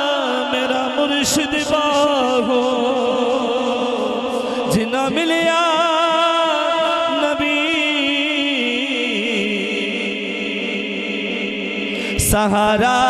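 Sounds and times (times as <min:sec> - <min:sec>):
man singing over loudspeaker: 0:00.0 - 0:13.0.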